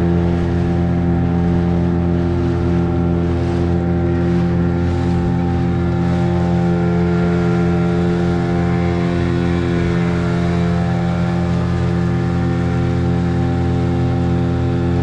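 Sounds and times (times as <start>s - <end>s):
outboard engine droning: 0.0s - 15.0s.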